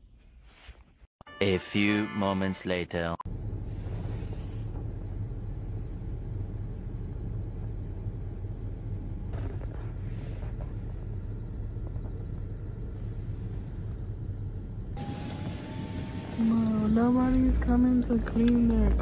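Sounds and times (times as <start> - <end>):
car engine rumbling: 3.3 - 19.0.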